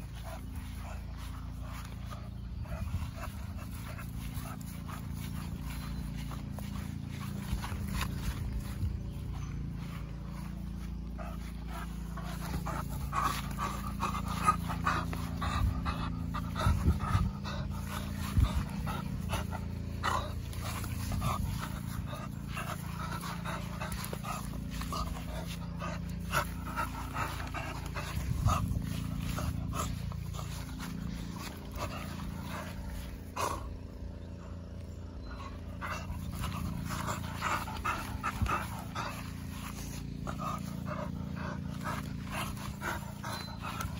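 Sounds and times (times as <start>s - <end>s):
puppy panting: 0.0s - 43.9s.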